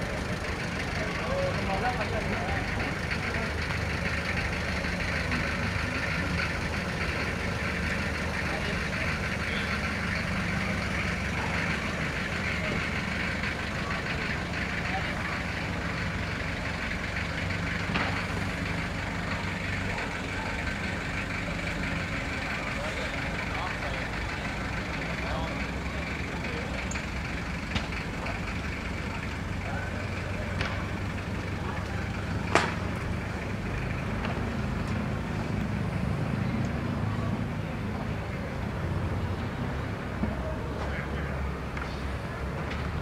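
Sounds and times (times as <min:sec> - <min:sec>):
engine idling: 0:00.0 - 0:43.0.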